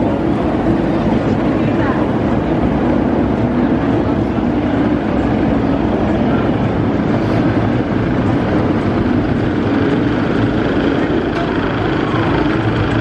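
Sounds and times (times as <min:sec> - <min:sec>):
roller coaster rumbling roar: 0:00.0 - 0:13.0.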